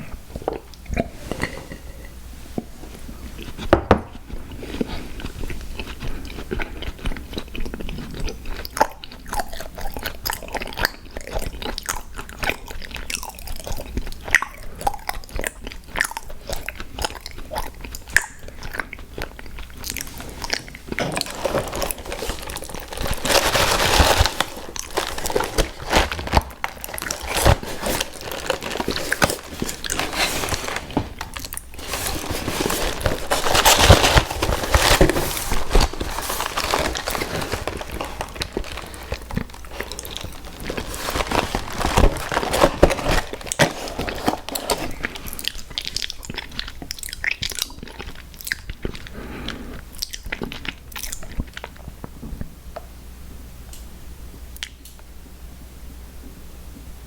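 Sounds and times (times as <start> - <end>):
crunching and chewing sweets: 2.9 - 52.8.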